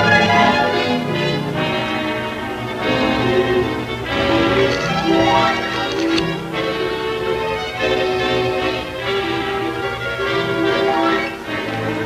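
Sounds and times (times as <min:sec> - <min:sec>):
orchestral string and brass chords: 0:00.0 - 0:12.0.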